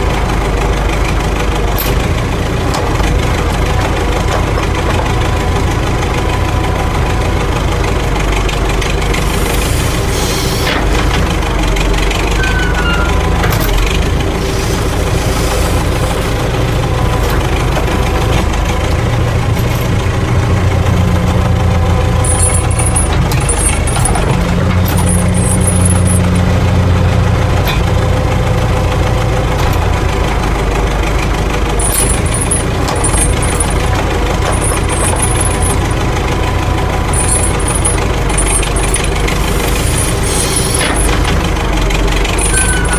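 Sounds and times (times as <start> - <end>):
vehicle engine droning: 0.0 - 42.9.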